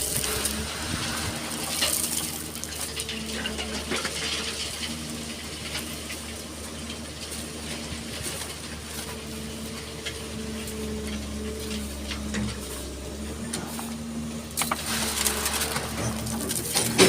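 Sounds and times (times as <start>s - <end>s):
sand and stones clattering: 0.0s - 13.0s, 13.6s - 17.0s
diesel engine running: 0.0s - 17.0s.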